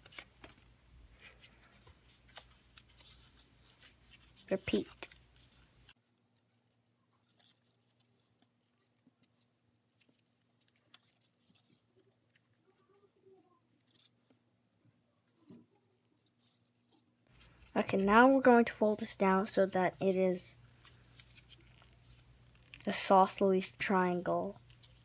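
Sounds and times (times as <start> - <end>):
paper being folded and creased: 0.0 - 25.0.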